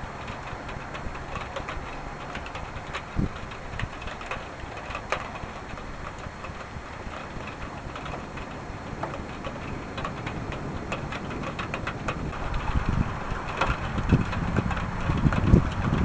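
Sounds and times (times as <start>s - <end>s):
rain hiss: 0.0s - 16.0s
raindrops ticking close by: 0.0s - 16.0s.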